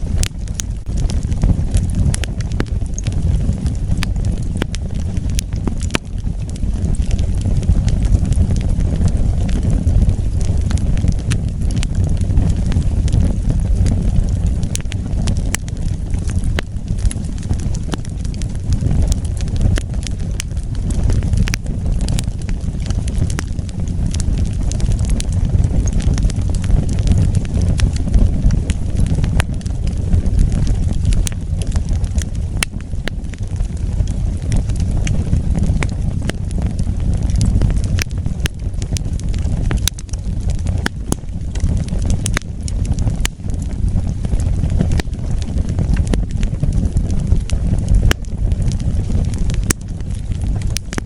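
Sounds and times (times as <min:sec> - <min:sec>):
fire crackles and pops: 0:00.0 - 0:51.0
wood fire rumbling: 0:00.0 - 0:51.0.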